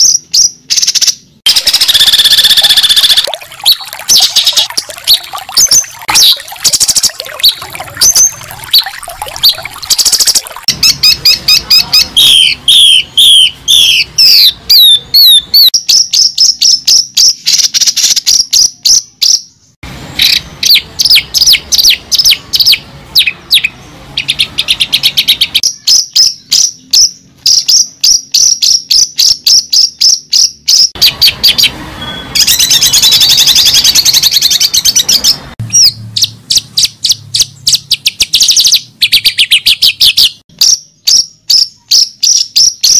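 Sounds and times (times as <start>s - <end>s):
bird singing with trills: 0.0s - 42.9s.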